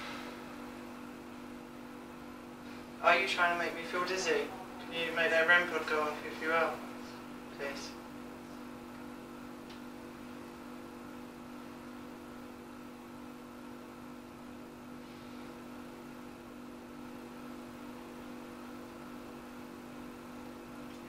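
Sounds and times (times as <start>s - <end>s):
low hum of held tones: 0.0s - 21.0s.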